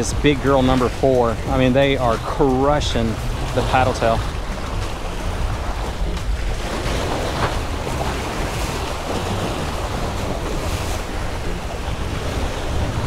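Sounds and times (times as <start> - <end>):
waves splashing against rocks: 0.0 - 13.0
wind buffeting microphone: 0.0 - 13.0.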